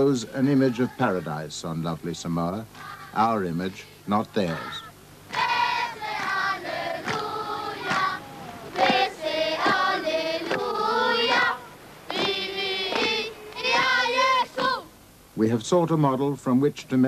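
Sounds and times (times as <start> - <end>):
choir singing a hymn: 0.0 - 14.9.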